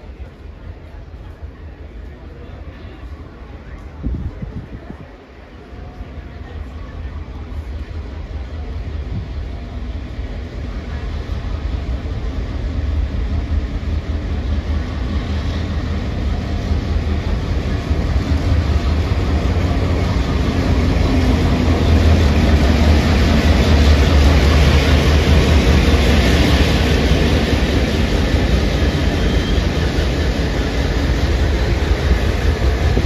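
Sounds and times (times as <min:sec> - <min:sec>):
diesel locomotive engine thrumming: 0:00.0 - 0:33.0.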